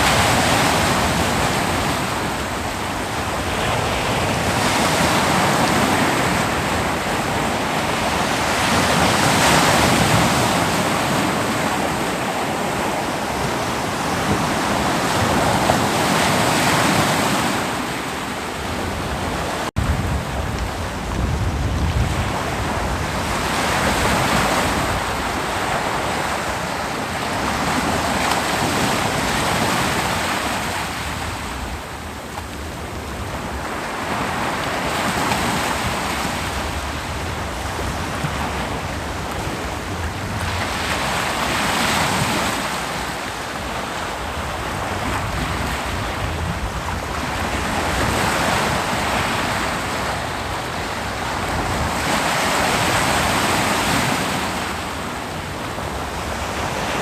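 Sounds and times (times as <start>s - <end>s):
ocean waves washing on beach: 0.0s - 57.0s.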